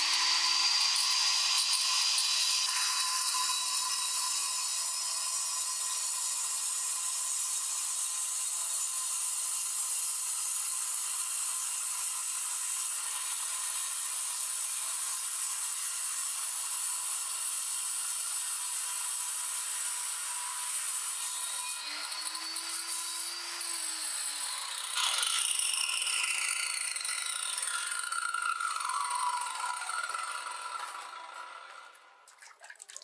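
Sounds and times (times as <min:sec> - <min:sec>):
angle grinder cutting brick: 0:00.0 - 0:32.3.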